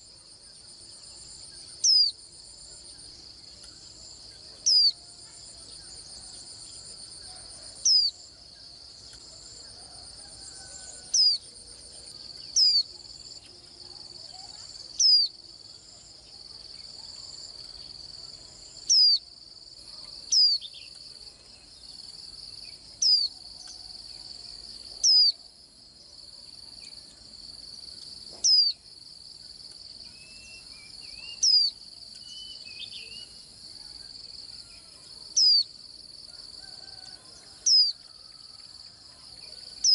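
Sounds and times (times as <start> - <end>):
high chirring of insects: 0.0 - 39.9.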